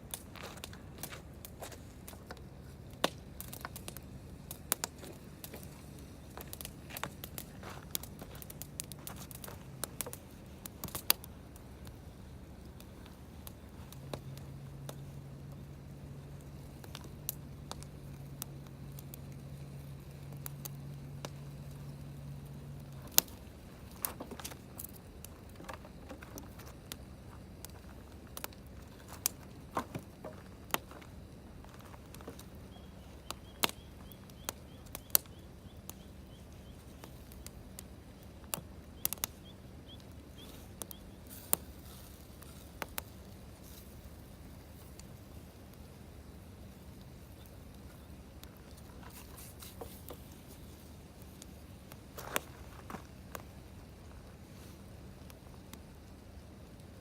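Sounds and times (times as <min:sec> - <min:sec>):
campfire crackling and popping: 0:00.0 - 0:57.0
steady low hum: 0:00.0 - 0:57.0.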